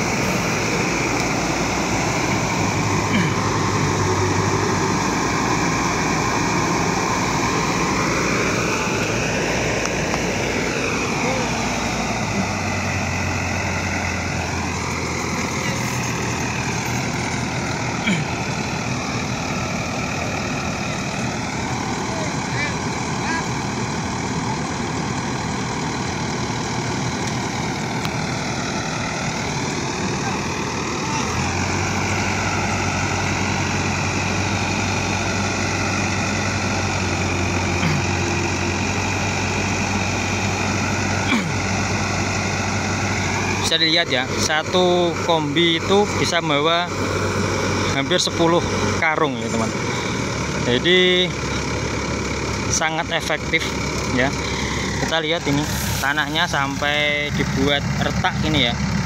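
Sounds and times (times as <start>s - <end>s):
combine harvester engine drone: 0.0s - 59.0s
machinery whir: 0.0s - 59.0s.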